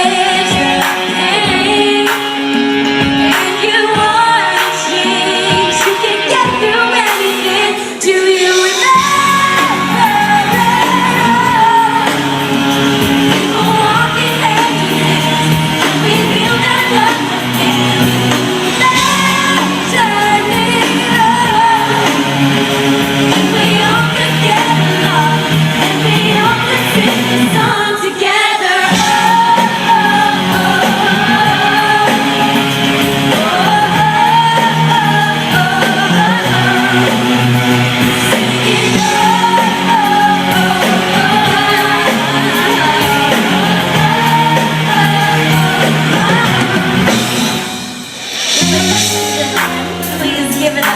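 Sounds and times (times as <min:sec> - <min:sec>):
bass guitar: 0:00.0 - 0:28.0, 0:28.7 - 0:50.9
live pop band: 0:00.0 - 0:50.9
woman singing: 0:00.0 - 0:50.9.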